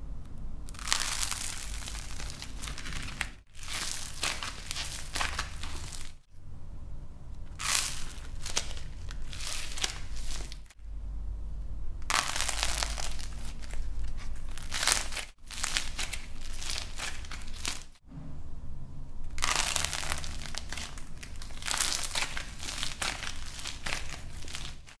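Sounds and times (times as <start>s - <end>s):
plasticine crackling in hands: 0.7s - 6.3s, 7.5s - 10.8s, 12.0s - 18.0s, 19.3s - 25.0s.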